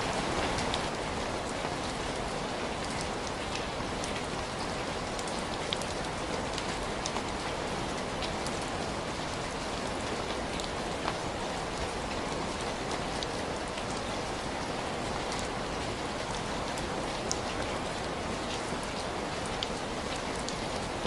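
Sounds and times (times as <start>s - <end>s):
steady rain hissing: 0.0s - 21.0s.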